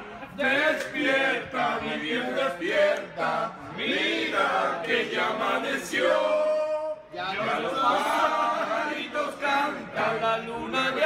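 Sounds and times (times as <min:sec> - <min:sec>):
men singing together: 0:00.3 - 0:11.0.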